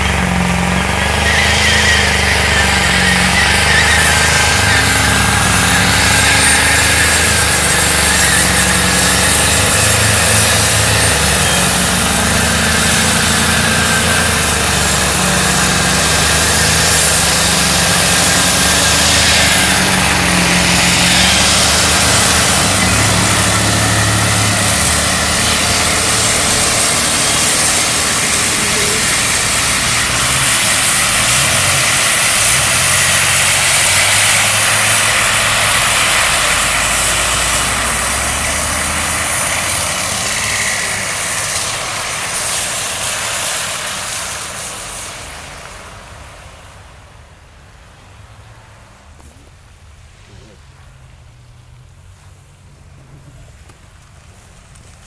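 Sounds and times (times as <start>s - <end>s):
car engine revving high: 0.0s - 46.2s
tyres spinning on wet road: 0.0s - 55.0s.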